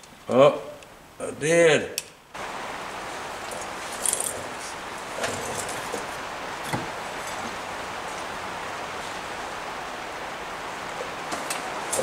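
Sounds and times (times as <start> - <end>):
heavy rain: 2.3 - 12.0.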